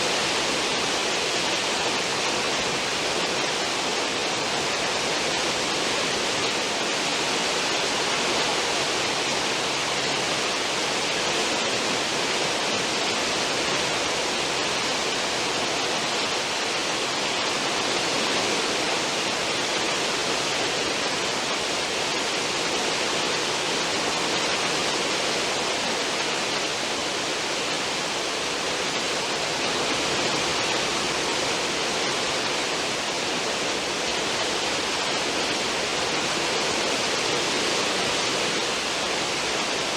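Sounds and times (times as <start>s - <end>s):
churning sea water rushing: 0.0s - 39.9s.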